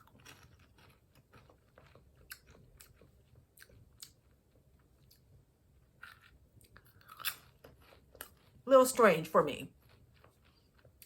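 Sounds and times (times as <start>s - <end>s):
chewing popcorn: 0.0s - 11.0s.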